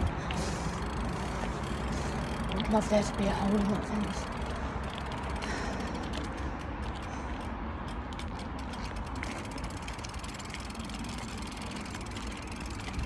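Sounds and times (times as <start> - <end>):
bike freewheel ticking: 0.0 - 13.0
tyres and wind rumble: 0.0 - 13.0.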